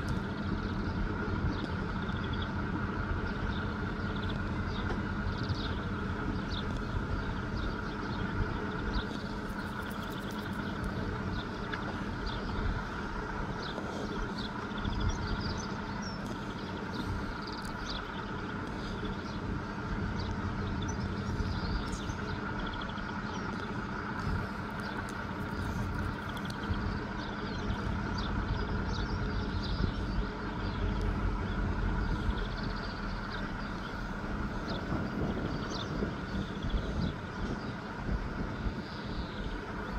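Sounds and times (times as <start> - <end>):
low mechanical hum: 0.0 - 39.9
small birds chirping: 0.0 - 39.9.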